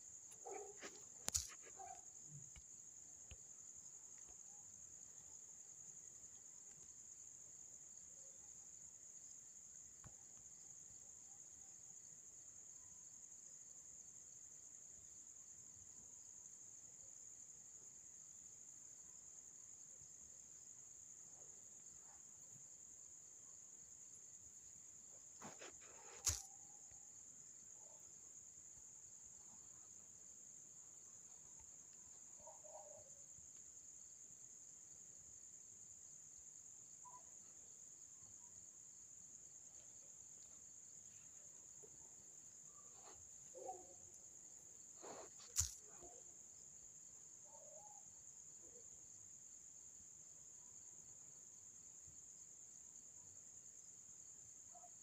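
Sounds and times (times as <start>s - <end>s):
faint high-pitched hiss: 0.0s - 55.0s.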